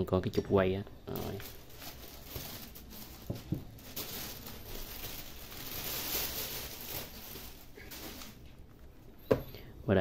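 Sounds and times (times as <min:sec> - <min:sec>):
plastic bag rustling: 0:01.1 - 0:09.2.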